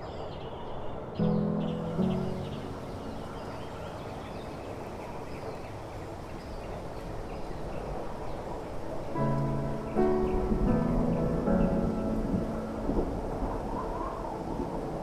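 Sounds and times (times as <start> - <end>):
rain hissing: 1.5 - 15.0.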